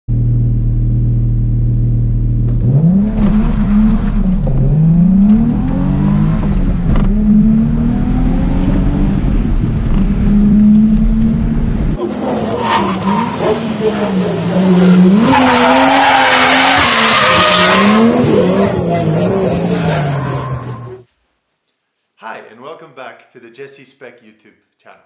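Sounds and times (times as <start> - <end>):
car engine revving: 0.2 - 21.0.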